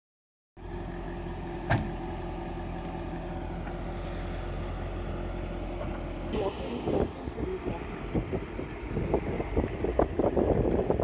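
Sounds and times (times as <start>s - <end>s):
car engine idling: 0.6s - 11.0s.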